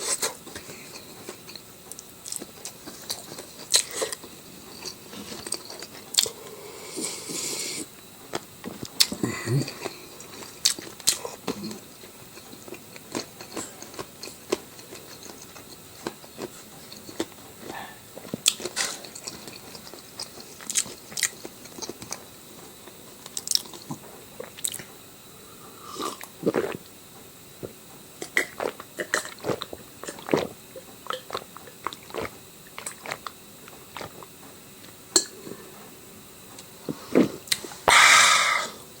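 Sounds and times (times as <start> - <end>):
person chewing and crunching: 0.0 - 24.9, 25.8 - 26.9, 27.6 - 34.3.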